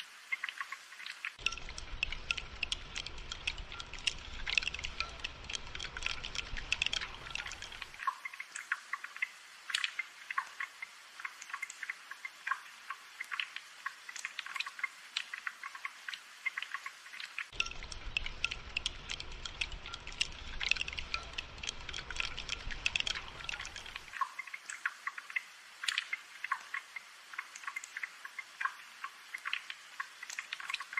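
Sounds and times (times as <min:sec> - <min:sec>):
rain dripping and pattering: 0:00.0 - 0:30.9.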